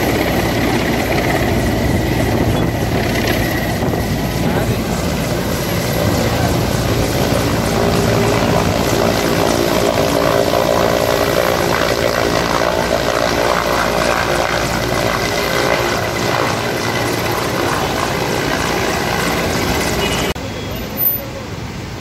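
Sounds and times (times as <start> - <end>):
helicopter hovering: 0.0 - 20.4.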